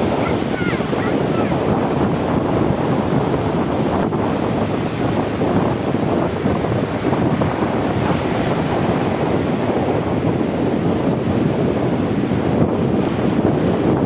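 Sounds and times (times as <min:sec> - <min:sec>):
sea waves washing in: 0:00.0 - 0:14.0
wind buffeting microphone: 0:00.0 - 0:14.0.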